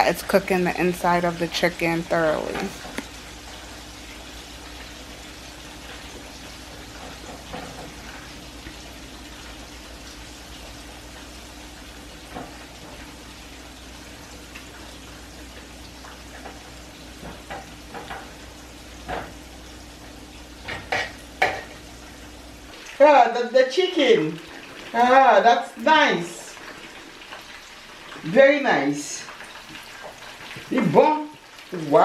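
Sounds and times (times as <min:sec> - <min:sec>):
chicken sizzling in hot oil: 0:00.0 - 0:32.0.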